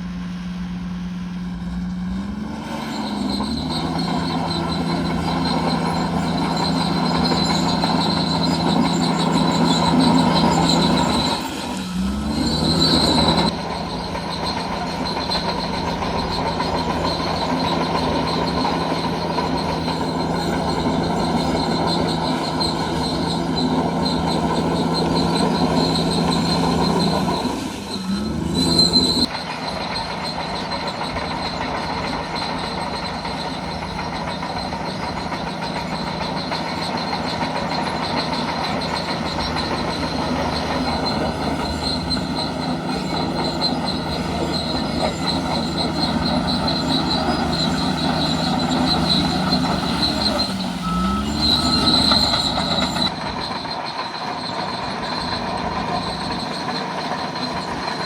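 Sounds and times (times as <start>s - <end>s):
bulldozer diesel engine: 0.0s - 58.0s
steel tracks squealing and clattering: 0.0s - 58.0s.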